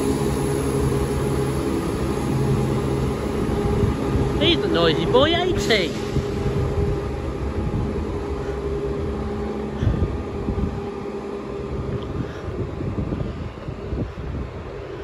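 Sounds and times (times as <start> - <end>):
diesel train engines droning: 0.0 - 15.0.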